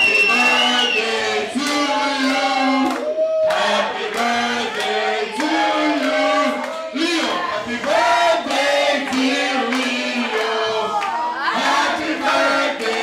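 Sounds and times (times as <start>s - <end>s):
group singing: 0.0s - 13.0s.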